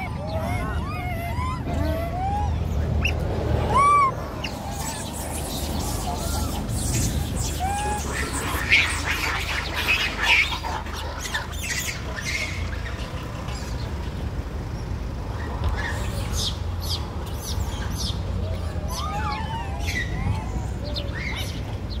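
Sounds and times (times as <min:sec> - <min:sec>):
birds chirping and warbling: 0:00.0 - 0:22.0
road traffic rumble: 0:00.0 - 0:22.0.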